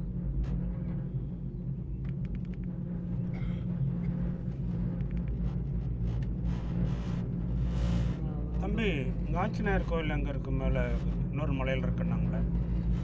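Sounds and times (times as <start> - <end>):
cable car hum and rumble: 0.0 - 13.0.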